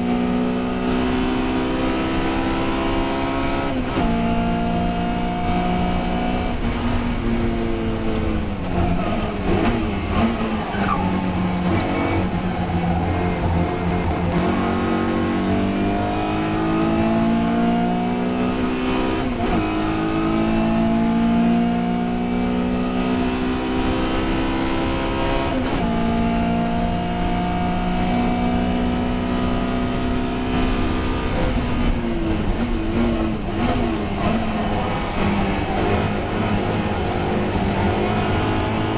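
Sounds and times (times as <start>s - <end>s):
race car engine accelerating: 0.0s - 38.9s.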